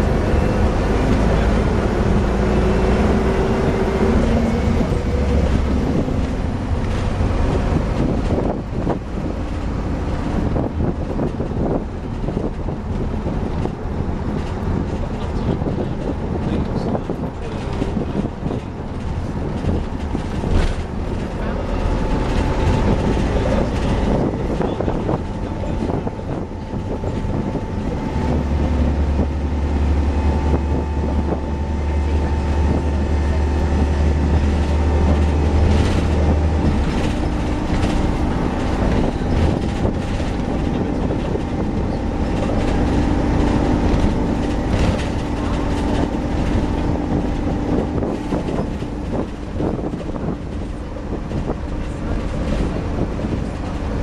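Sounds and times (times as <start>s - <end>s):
bus running noise: 0.0s - 54.0s
heavy low rumble: 0.0s - 54.0s.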